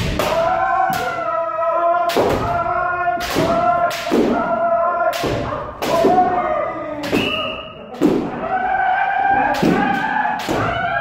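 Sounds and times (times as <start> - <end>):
people yelling drawn-out shouts: 0.0 - 11.0.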